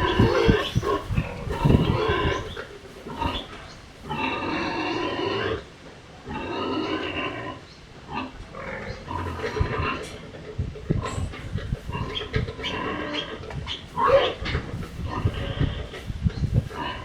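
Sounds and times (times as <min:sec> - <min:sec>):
farm animal calling: 0:00.0 - 0:17.0.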